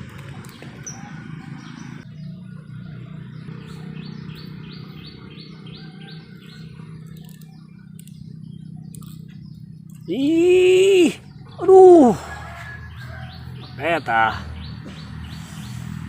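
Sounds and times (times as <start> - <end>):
bird chirping: 0.0 - 16.0
steady low hum: 0.0 - 16.0.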